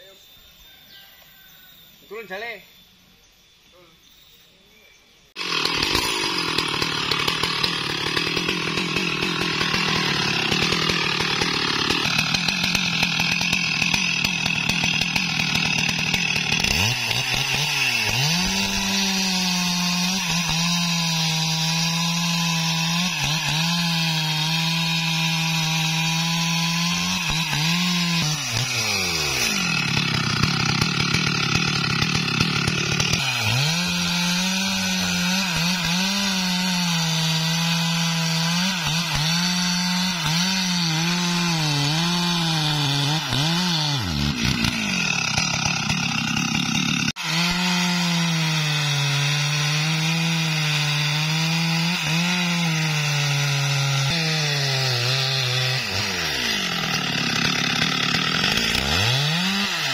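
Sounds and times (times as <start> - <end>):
chainsaw cutting tree trunk: 5.4 - 59.9.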